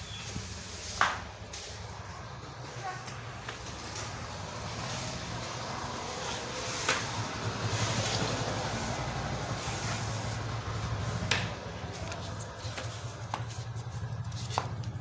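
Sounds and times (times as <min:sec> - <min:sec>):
broom sweeping tiled floor: 0:00.0 - 0:15.0.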